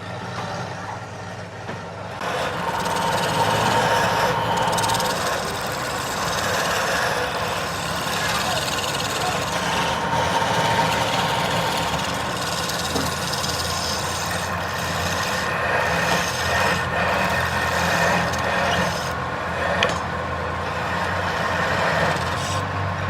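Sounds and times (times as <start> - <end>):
lathe motor humming: 2.0 - 23.0
lathe tool scraping wood: 2.1 - 23.0.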